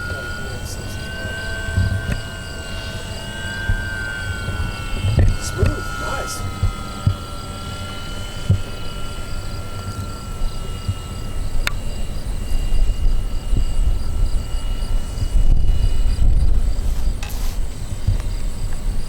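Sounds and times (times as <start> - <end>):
electric model plane motor whining: 0.0 - 19.0
wind rumble on microphone: 0.0 - 19.0.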